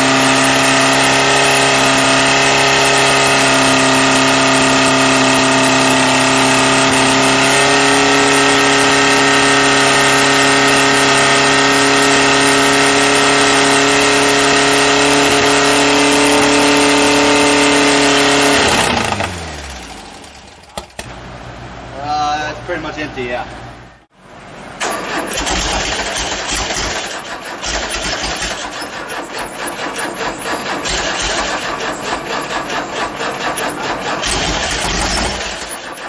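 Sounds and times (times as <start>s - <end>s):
car engine running: 0.0s - 24.1s, 24.8s - 36.0s.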